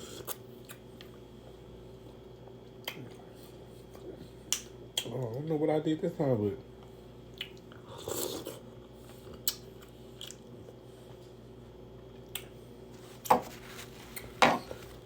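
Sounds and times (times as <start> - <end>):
close-up eating sounds: 0.0 - 5.5, 6.6 - 15.0.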